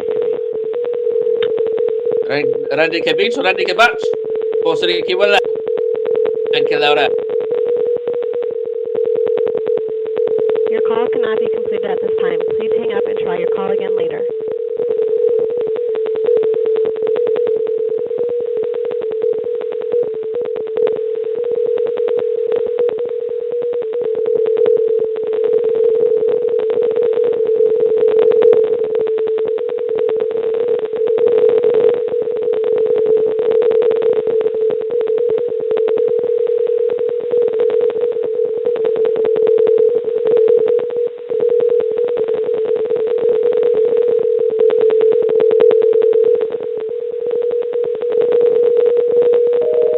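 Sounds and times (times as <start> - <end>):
steady telephone line tone: 0.0 - 49.9.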